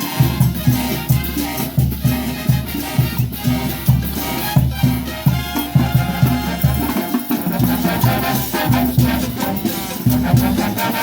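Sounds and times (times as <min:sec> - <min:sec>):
brass band music: 0:00.0 - 0:11.0
percussion: 0:00.0 - 0:11.0.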